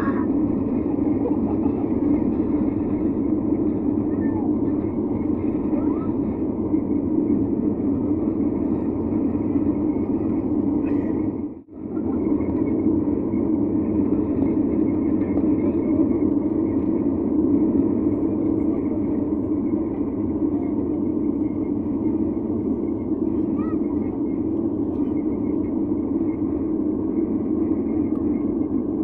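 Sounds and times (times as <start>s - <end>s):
jet engine and airflow in cabin: 0.0s - 29.0s.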